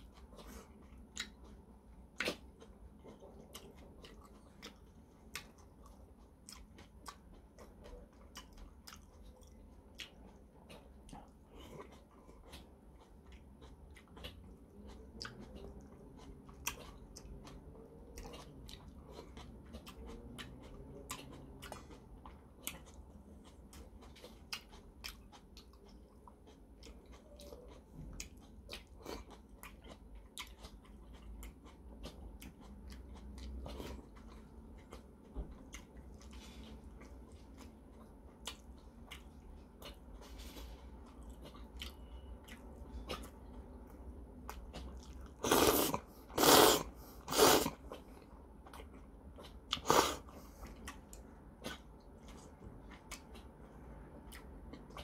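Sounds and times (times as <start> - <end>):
person chewing noodles: 0.0 - 55.0.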